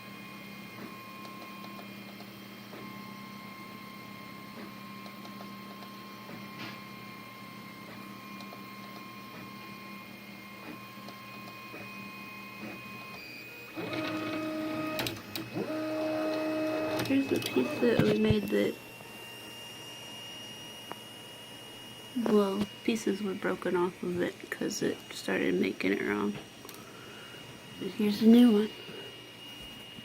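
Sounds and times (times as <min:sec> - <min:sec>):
printer stepper motors whining: 0:00.0 - 0:30.0.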